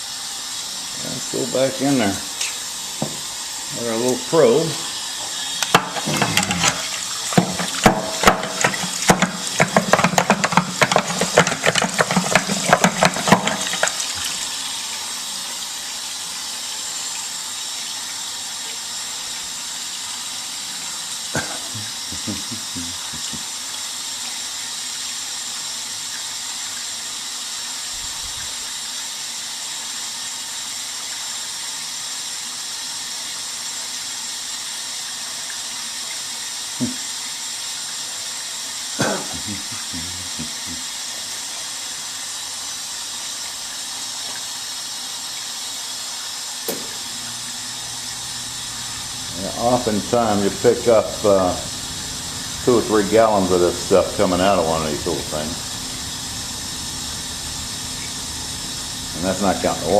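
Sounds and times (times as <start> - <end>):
water rushing from drain: 0.0 - 59.9.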